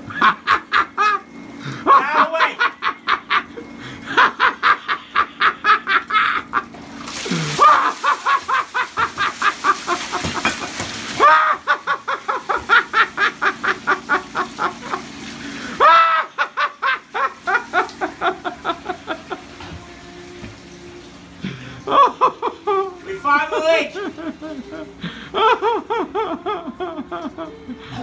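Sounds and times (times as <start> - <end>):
person laughing hard: 0.1 - 19.5, 21.4 - 28.0.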